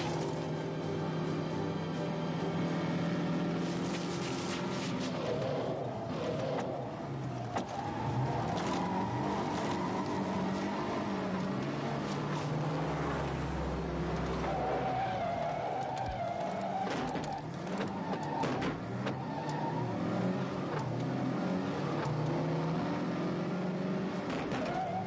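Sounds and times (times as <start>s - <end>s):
tyres skidding on loose ground: 0.0s - 1.3s, 3.2s - 22.5s, 23.8s - 25.0s
car engines revving: 0.0s - 25.0s.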